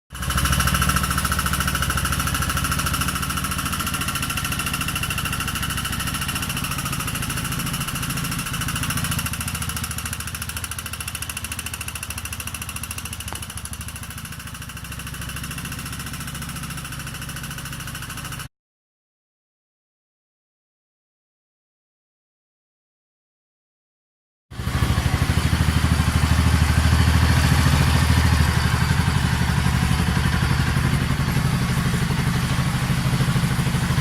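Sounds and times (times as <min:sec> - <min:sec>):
motorcycle engine idling: 0:00.1 - 0:18.5, 0:24.5 - 0:34.0.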